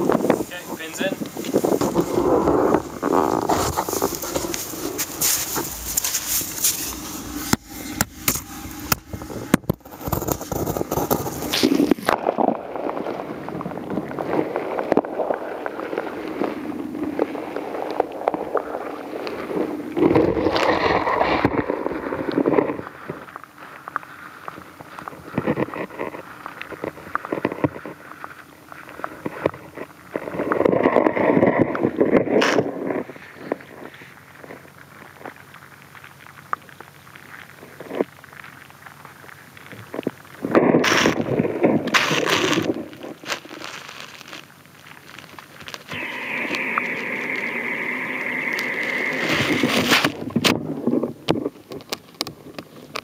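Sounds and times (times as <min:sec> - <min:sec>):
rough scraping: 0:00.0 - 0:35.3, 0:37.6 - 0:51.1.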